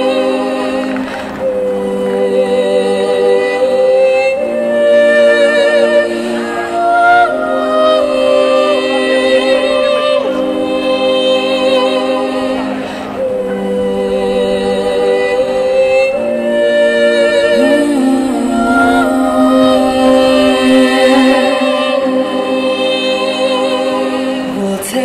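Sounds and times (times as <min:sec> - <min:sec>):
layered sustained vocal notes: 0:00.0 - 0:25.0
woman singing with vibrato: 0:00.0 - 0:25.0.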